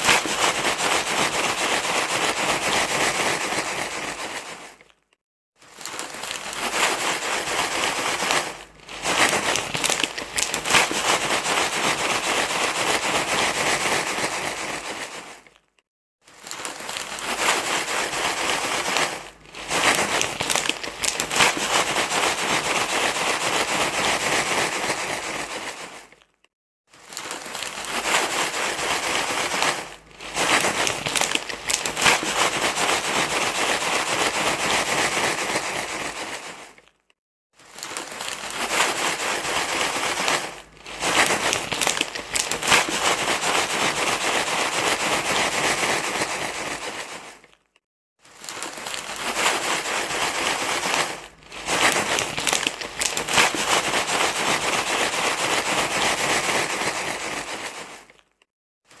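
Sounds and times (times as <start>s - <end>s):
crinkly rustling: 0.0s - 59.0s.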